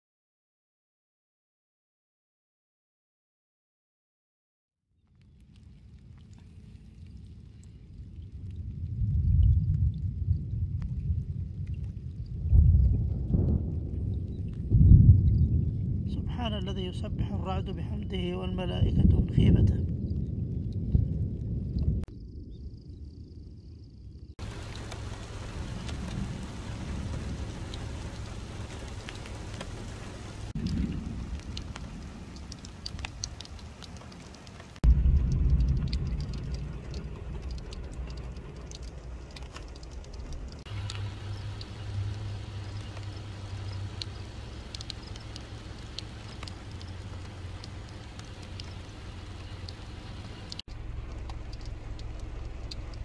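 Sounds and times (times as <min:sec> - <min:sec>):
rain on puddles and grass: 0:05.1 - 0:22.1, 0:24.4 - 0:53.0
low rumble: 0:05.2 - 0:53.0.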